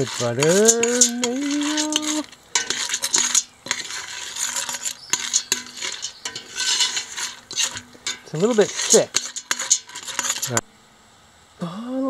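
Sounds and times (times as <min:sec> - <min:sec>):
metal spoon scraping pot: 0:00.0 - 0:10.7
faint sizzle: 0:00.0 - 0:12.0.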